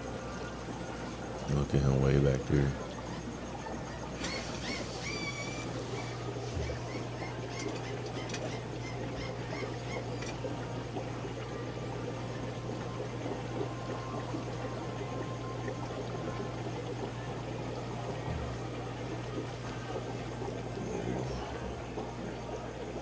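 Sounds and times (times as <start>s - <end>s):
aquarium water splashing: 0.0s - 23.0s
low pump hum: 0.0s - 23.0s.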